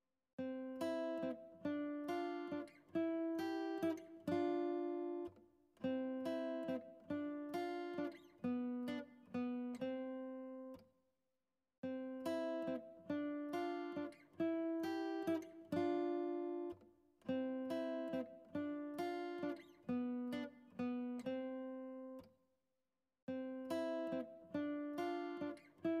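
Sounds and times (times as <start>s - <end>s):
plucked acoustic guitar: 0.4s - 10.8s, 11.8s - 22.3s, 23.3s - 26.0s.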